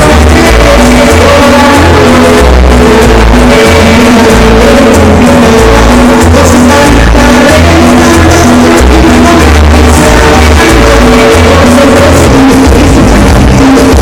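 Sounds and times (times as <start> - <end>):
loud dance music: 0.0 - 14.0.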